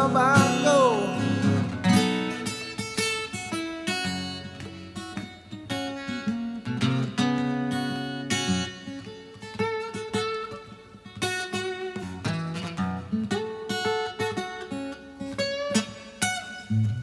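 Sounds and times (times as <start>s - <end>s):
blues guitar playing: 0.0s - 17.0s.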